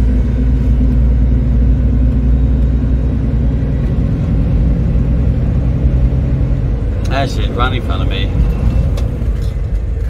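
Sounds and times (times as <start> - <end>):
diesel truck engine rumble: 0.0 - 10.0.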